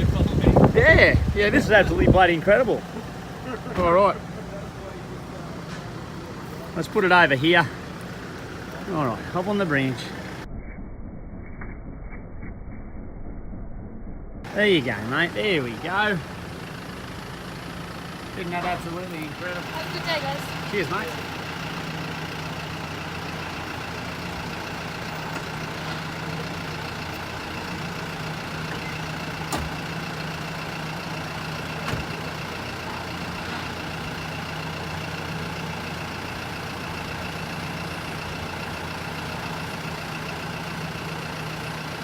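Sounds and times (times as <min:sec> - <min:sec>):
bus engine humming: 0:00.0 - 0:10.5, 0:14.4 - 0:42.0.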